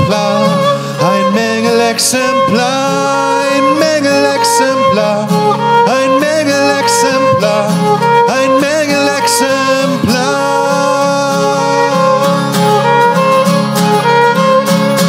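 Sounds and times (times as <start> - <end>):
man singing: 0.0 - 13.3
acoustic guitar strumming: 0.0 - 15.0
violin melody: 0.0 - 15.0.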